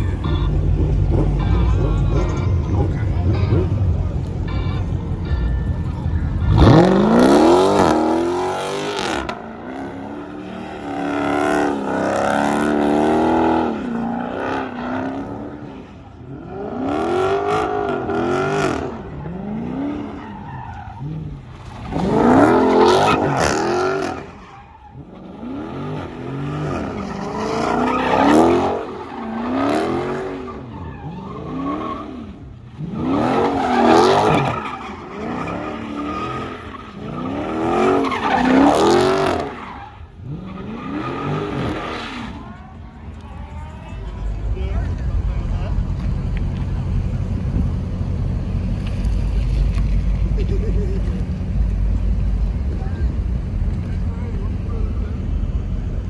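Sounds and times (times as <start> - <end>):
car engine revving: 0.0 - 56.0
tires squealing: 0.0 - 56.0.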